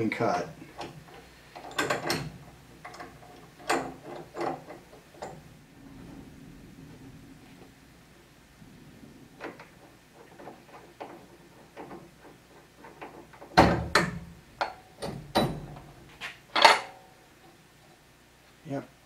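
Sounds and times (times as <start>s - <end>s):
metallic knocks and clanks: 0.8s - 17.0s.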